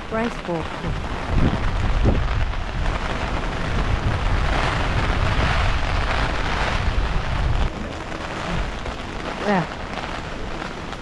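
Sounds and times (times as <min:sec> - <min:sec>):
rain hiss: 0:00.0 - 0:11.0
wind buffeting microphone: 0:00.0 - 0:11.0.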